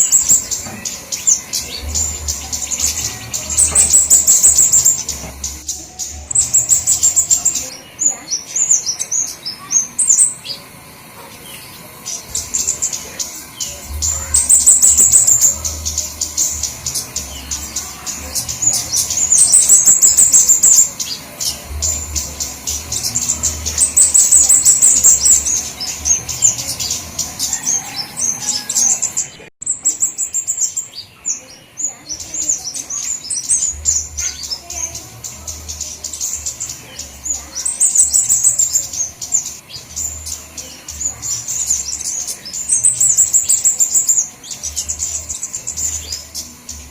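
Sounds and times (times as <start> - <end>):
birds chipping and twittering: 0.0 - 46.9.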